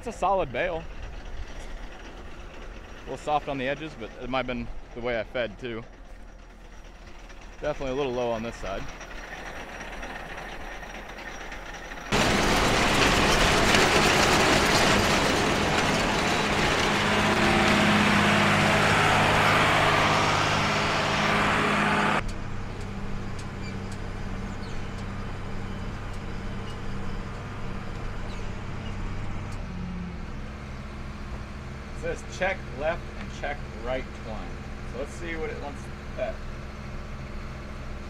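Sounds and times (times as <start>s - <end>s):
harsh engine and machinery noise: 0.0s - 38.0s
tractor engine running: 0.0s - 38.0s.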